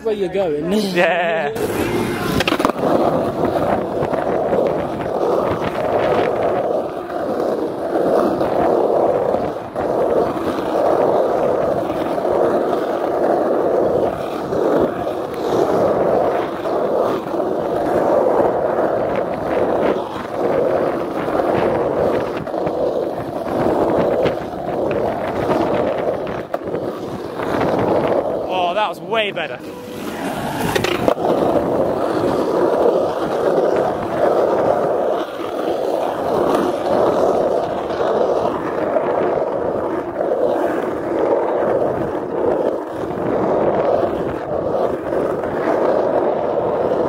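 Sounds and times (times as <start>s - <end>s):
skateboard wheels rolling on asphalt: 0.0s - 47.0s.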